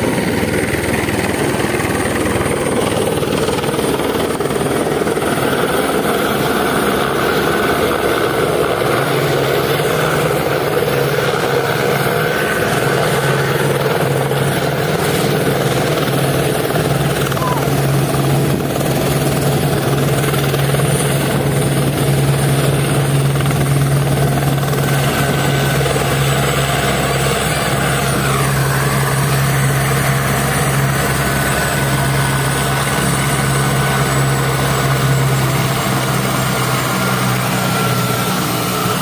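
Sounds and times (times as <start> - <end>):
helicopter rotor and engine: 0.0 - 39.0.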